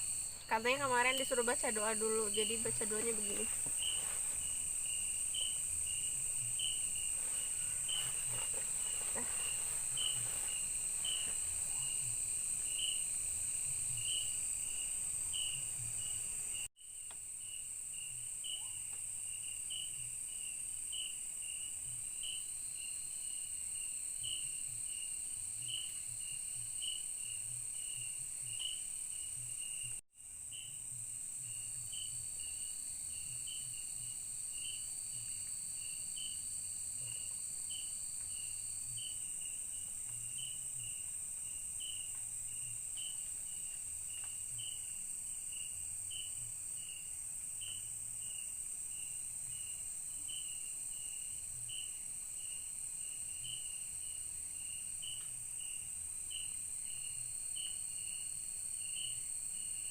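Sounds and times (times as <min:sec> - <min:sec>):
insect chirping: 0:00.0 - 0:59.9
insects droning high-pitched: 0:00.0 - 0:59.9.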